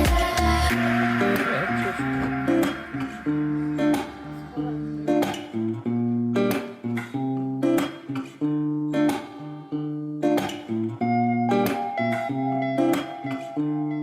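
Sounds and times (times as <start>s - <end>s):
guitar strumming chords: 0.0s - 14.0s.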